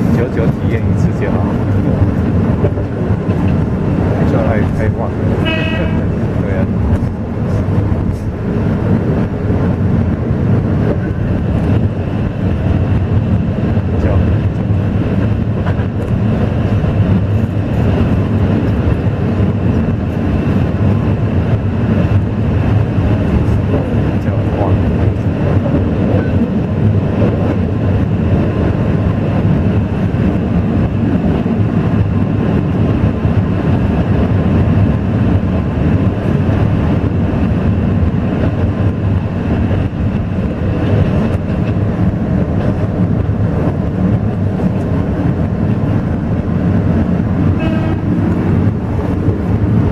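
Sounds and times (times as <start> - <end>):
train rumble: 0.0 - 49.9.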